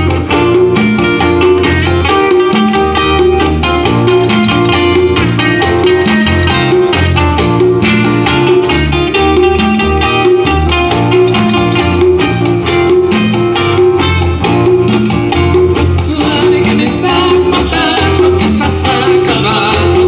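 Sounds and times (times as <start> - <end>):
latin music with plucked guitar: 0.0 - 20.0
moving bass line: 0.0 - 20.0
shaker percussion: 0.0 - 20.0.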